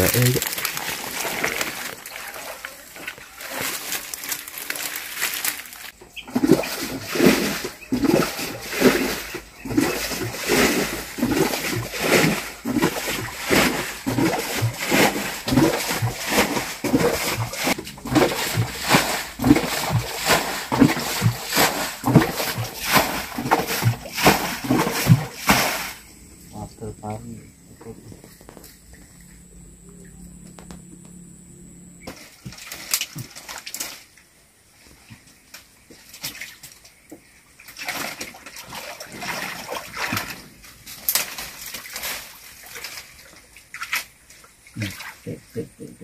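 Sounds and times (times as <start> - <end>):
water splashing as bailed by hand: 0.0 - 26.0, 32.0 - 34.3, 35.1 - 45.4.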